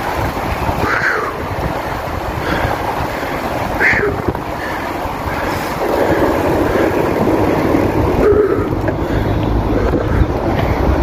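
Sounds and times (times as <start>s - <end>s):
bicycle tyre noise on asphalt: 0.0s - 11.0s
wind rumble on microphone: 0.0s - 11.0s.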